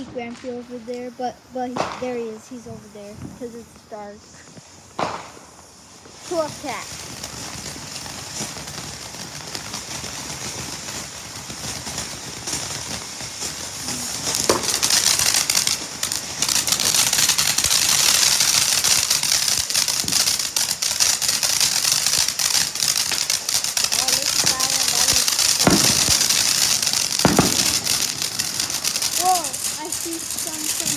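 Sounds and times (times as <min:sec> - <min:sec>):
firework crackling: 0:00.0 - 0:30.9
firework fountain hissing: 0:00.0 - 0:30.9.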